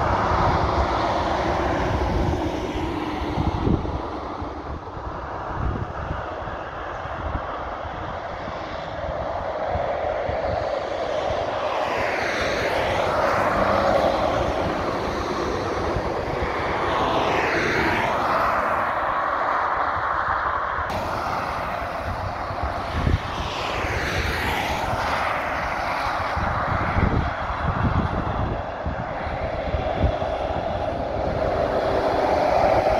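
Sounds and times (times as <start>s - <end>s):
traffic passing at speed: 0.0s - 32.9s.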